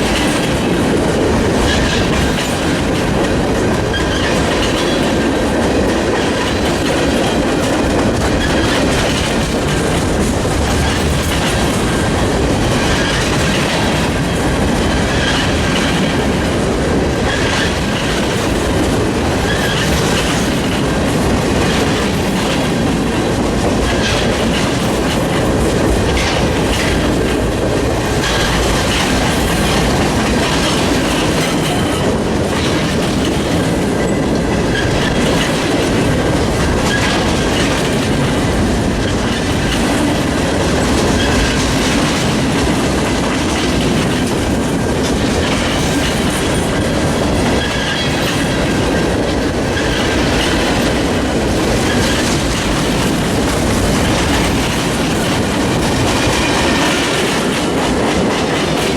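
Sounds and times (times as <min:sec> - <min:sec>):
rumble of train wheels on rail: 0:00.0 - 0:58.9.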